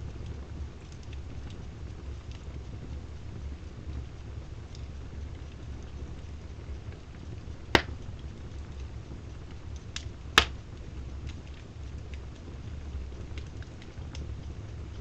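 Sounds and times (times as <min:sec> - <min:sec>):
fire popping: 0:00.0 - 0:15.0
low steady rumble: 0:00.0 - 0:15.0
wood fire crackling: 0:00.0 - 0:15.0.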